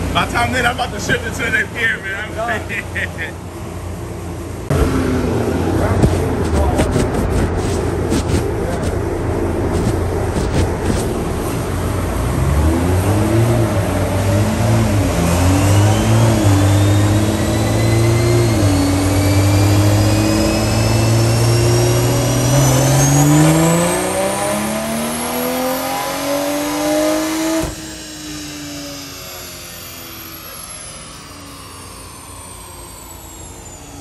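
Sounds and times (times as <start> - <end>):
high turbo whine: 0.0 - 34.0
car engine revving under load: 3.4 - 33.2.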